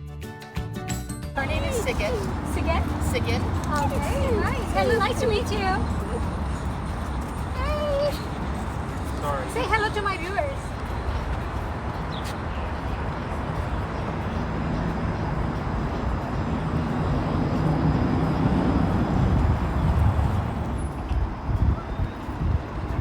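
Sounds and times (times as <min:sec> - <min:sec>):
vehicle passing close by: 0:01.4 - 0:21.8
street traffic rumble: 0:01.4 - 0:23.0.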